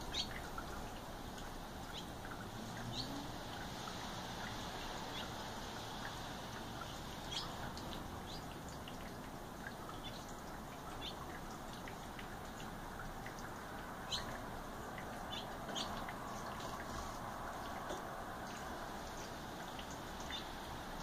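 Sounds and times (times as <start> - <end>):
small songbirds chirping: 0.0 - 21.0
steady wet hiss: 0.0 - 21.0.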